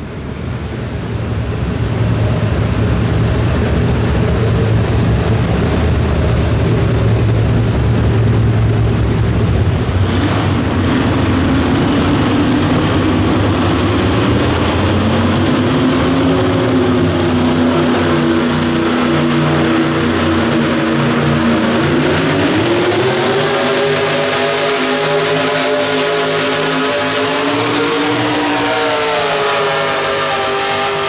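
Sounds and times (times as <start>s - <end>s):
truck engine revving hard: 0.0s - 31.0s.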